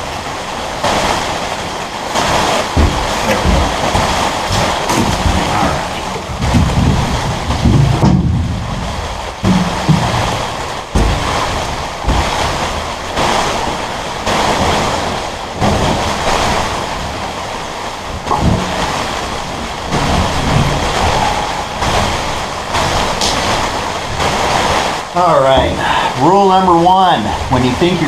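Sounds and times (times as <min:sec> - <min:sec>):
wind buffeting microphone: 0:00.0 - 0:26.4
rain and wind rushing: 0:00.0 - 0:28.0.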